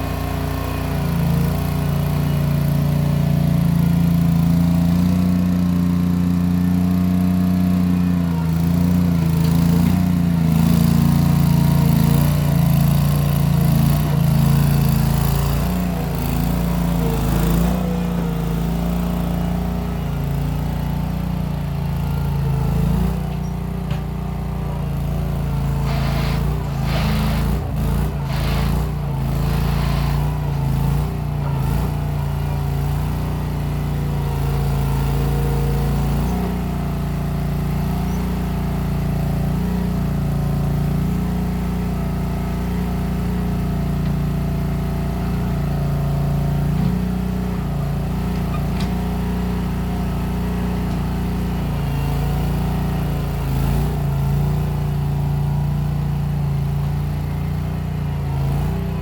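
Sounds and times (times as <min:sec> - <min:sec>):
skid steer engine running: 0:00.0 - 0:59.0.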